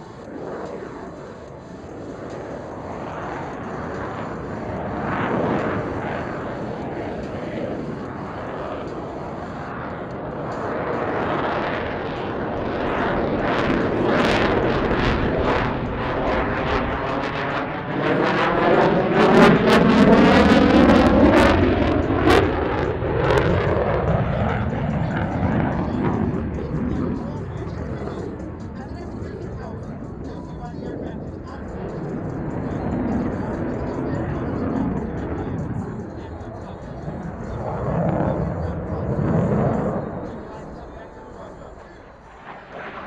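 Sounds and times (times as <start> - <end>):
fighter jet roaring overhead: 0.0 - 43.0.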